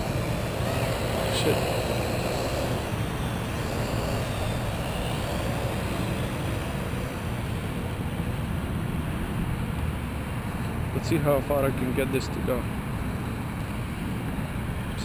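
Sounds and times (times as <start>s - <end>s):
drone rotors whirring: 0.0s - 15.0s
faint hum: 0.0s - 15.0s.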